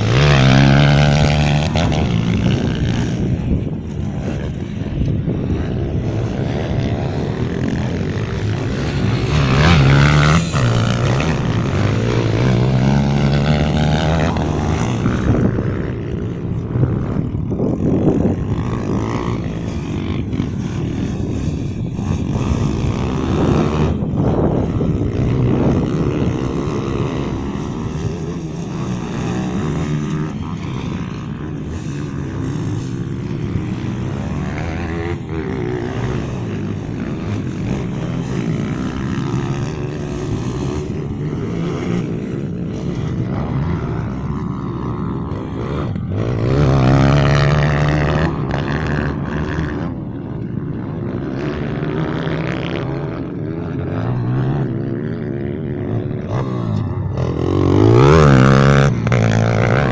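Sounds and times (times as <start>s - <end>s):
small motorbike engines revving: 0.0s - 59.9s.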